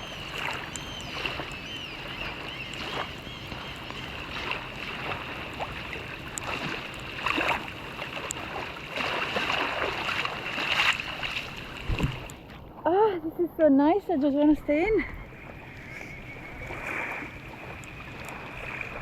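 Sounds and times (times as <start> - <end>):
water splashing from swimming strokes: 0.0 - 12.7, 14.7 - 19.0
rain falling on water: 0.0 - 13.2, 14.6 - 19.0.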